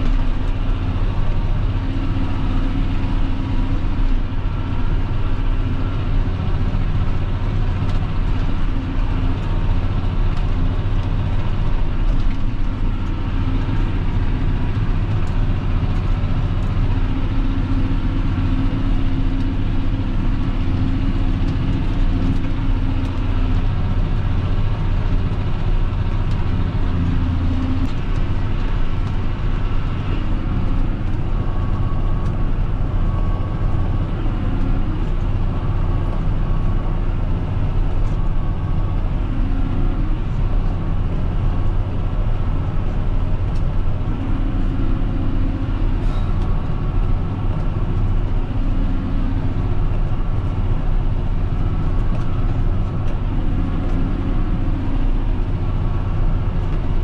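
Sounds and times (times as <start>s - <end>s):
tractor diesel engine drone: 0.0s - 57.0s.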